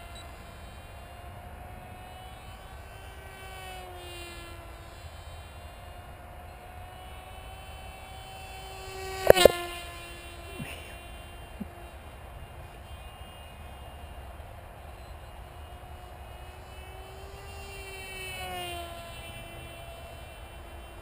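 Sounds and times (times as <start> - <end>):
model aircraft propeller whine: 0.0 - 21.0.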